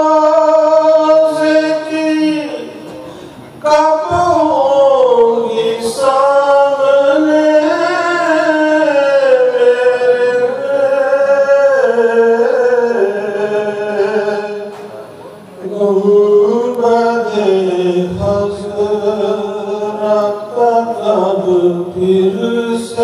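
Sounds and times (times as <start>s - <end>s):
man singing unaccompanied: 0.0s - 2.9s, 3.6s - 14.9s, 15.6s - 23.0s.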